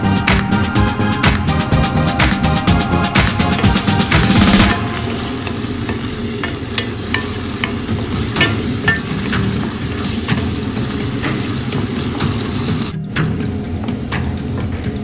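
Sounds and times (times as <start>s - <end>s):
onion sizzling in oil: 2.7s - 15.0s.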